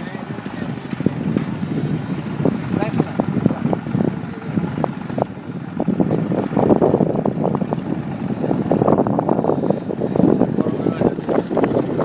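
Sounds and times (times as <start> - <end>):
wind buffeting microphone: 0.0 - 12.0
model plane engine buzzing: 0.1 - 12.0.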